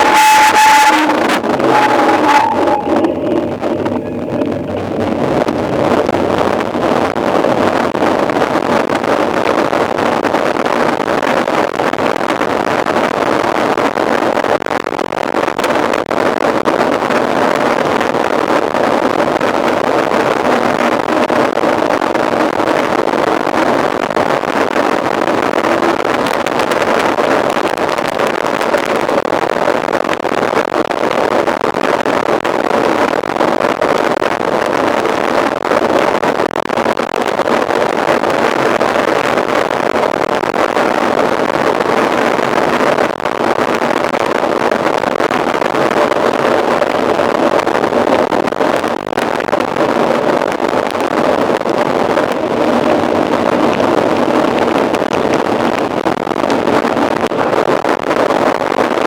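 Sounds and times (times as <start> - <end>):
wind over microphone: 0.0 - 59.0.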